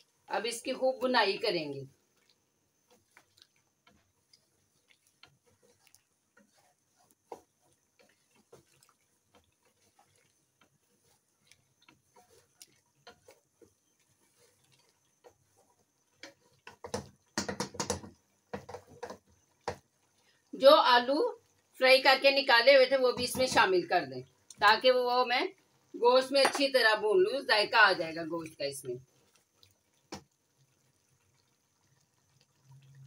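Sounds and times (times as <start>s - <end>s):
wooden spatula scraping metal pot: 0.0s - 30.3s.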